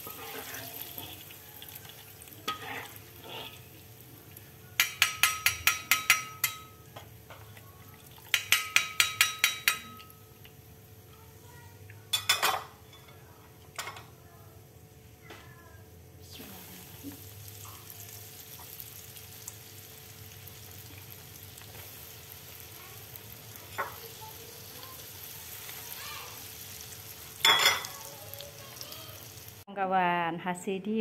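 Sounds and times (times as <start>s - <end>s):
hot oil sizzling in a wok: 0.0s - 12.8s, 14.7s - 29.7s.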